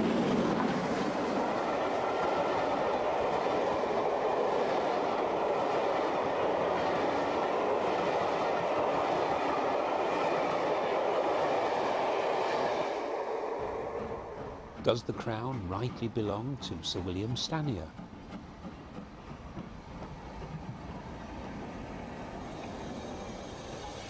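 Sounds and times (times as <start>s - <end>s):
train wheels rushing on track: 0.0s - 24.0s.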